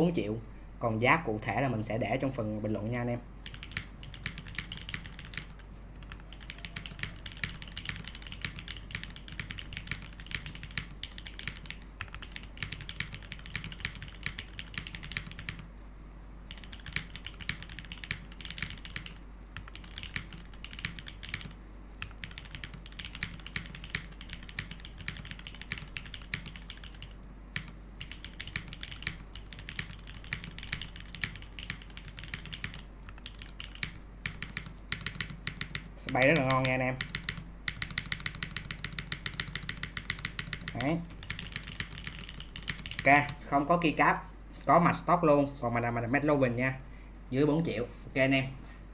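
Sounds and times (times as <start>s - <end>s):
mechanical keyboard typing: 3.4s - 15.7s, 16.5s - 43.4s.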